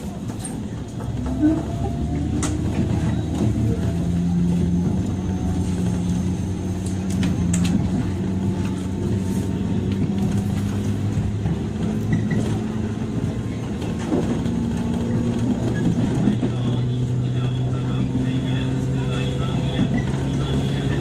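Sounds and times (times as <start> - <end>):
wheel-on-rail noise: 0.0 - 21.0
traction motor hum: 1.0 - 21.0.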